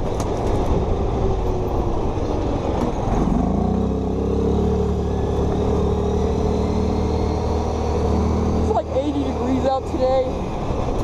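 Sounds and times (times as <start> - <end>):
wind and tyre noise: 0.0 - 11.0
atv engine accelerating: 0.5 - 11.0.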